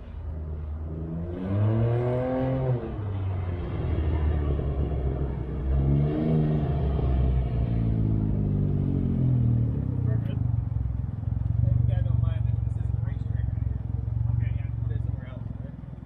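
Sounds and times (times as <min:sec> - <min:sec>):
motorcycle engine revving: 0:00.8 - 0:14.9.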